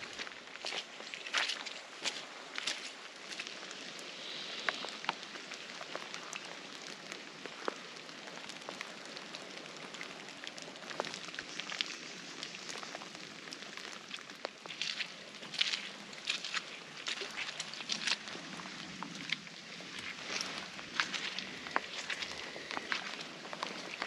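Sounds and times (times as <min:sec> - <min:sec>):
steady rain falling: 0:00.0 - 0:24.0
raindrops ticking: 0:00.1 - 0:24.0.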